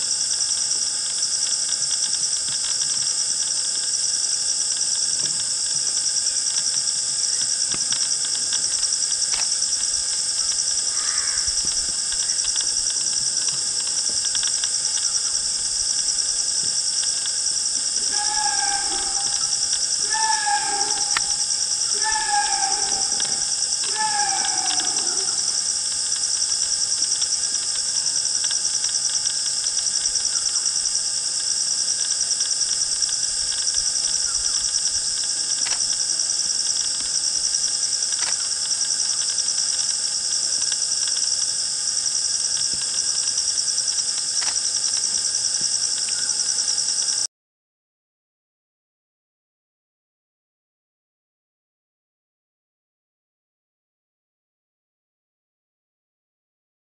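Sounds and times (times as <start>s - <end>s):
clear repeated insect call: 0.0s - 47.3s
high-pitched insect chorus: 0.0s - 47.3s.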